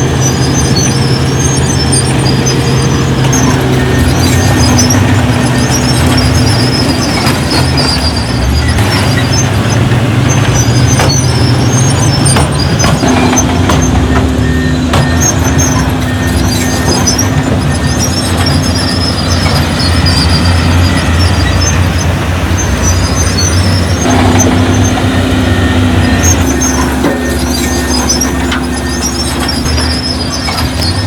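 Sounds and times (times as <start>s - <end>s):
construction machinery diesel engine: 0.0s - 31.0s
high-pitched squealing: 0.0s - 31.0s.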